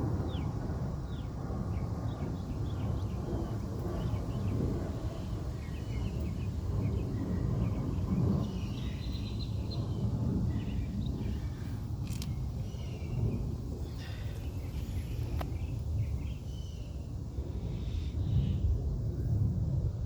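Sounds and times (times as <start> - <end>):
steady low rumble: 0.0 - 20.0
small birds chirping: 0.3 - 17.1.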